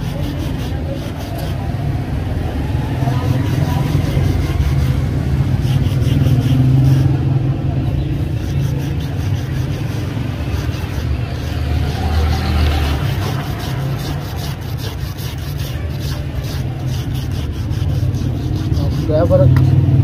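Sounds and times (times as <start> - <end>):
wooden stick rubbing on padlock: 0.0 - 1.9, 2.9 - 19.9.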